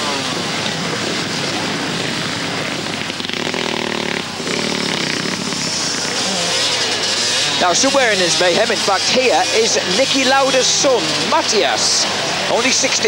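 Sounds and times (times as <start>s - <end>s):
motorcycle engines revving hard: 0.0s - 13.0s
wheels digging in mud: 0.0s - 13.0s.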